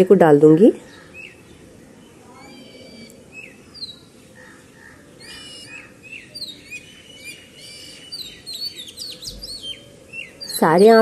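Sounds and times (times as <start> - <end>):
small birds chirping: 0.7 - 11.0.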